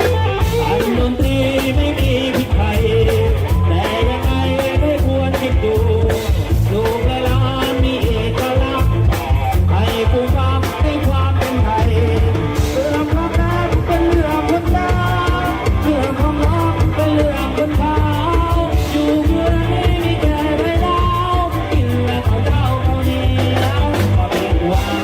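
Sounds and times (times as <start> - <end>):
steady drum kit beat: 0.0 - 25.0
sung melody: 0.0 - 25.0.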